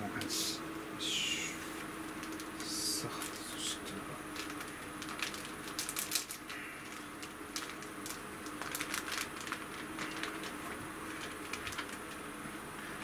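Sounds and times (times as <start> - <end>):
plastic bag crinkling: 1.6 - 12.4.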